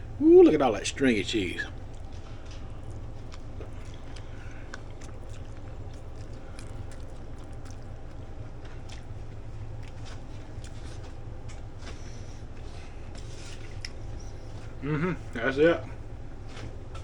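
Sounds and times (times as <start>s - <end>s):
steady low hum: 0.0s - 17.0s
person chewing: 1.4s - 15.4s.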